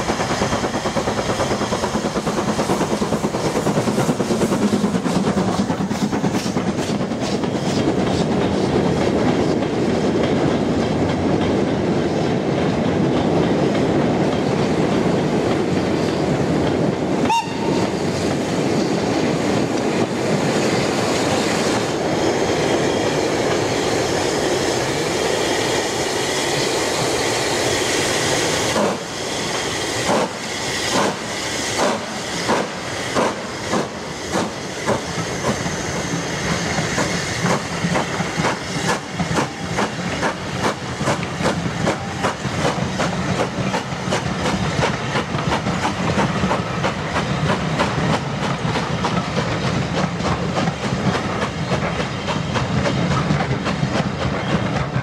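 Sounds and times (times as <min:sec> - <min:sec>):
steam hissing: 0:00.0 - 0:10.2, 0:11.8 - 0:55.0
steam locomotive exhaust chuffs: 0:00.0 - 0:55.0
train wheels clattering over rail joints: 0:00.0 - 0:55.0.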